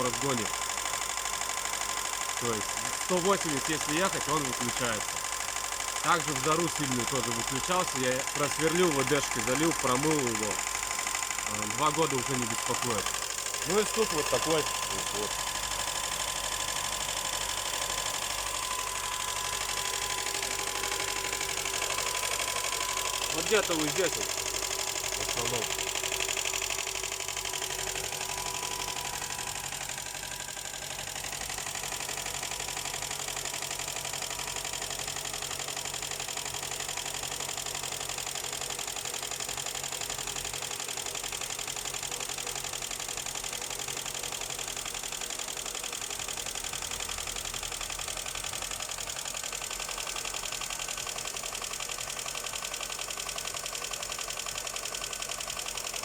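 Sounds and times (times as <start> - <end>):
car engine running: 0.0 - 56.0
fast engine knocking: 0.0 - 56.0.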